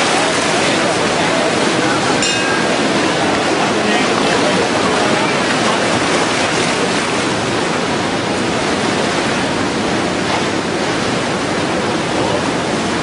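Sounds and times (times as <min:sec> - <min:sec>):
fast water rushing: 0:00.0 - 0:13.0.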